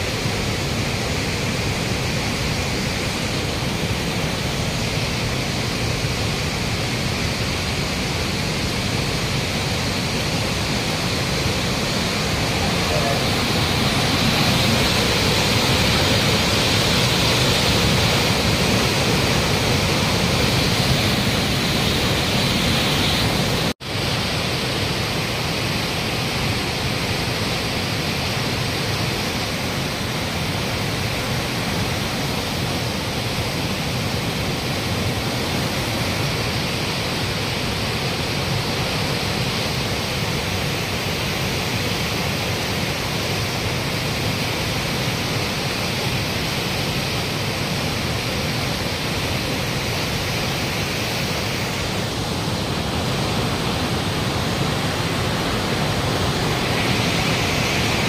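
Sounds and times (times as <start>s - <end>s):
flooded river rushing: 0.0s - 58.0s.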